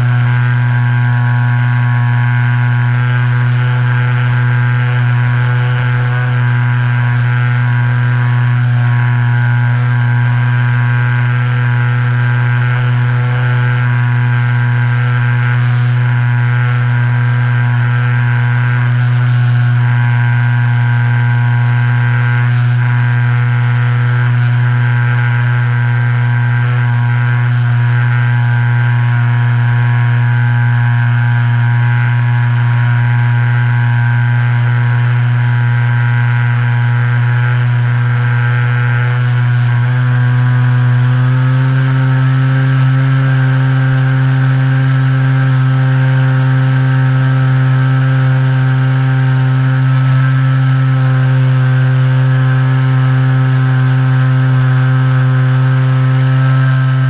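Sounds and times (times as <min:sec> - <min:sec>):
electric motor and propeller hum: 0:00.0 - 0:57.0.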